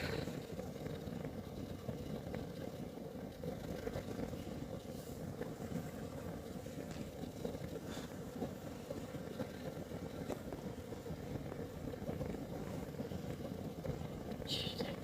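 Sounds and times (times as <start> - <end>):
heater flame rumbling: 0.0 - 15.0.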